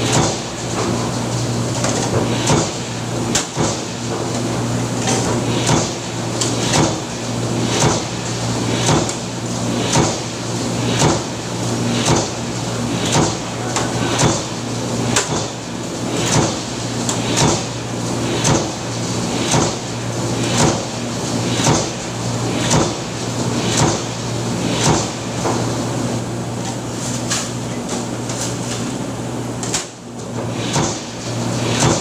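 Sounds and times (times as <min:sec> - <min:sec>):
machinery humming: 0:00.0 - 0:29.6.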